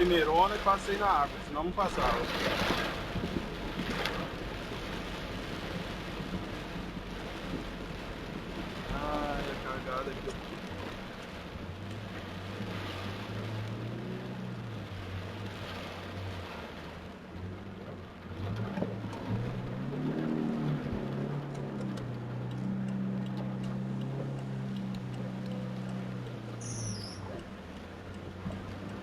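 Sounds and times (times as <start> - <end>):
rain noise: 0.0 - 29.0.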